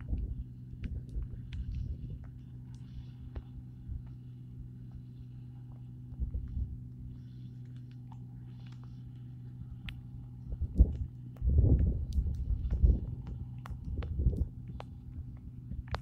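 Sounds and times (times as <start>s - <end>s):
wind rumble on microphone: 0.0s - 7.4s, 8.1s - 16.0s
distant combine engine drone: 0.0s - 16.0s.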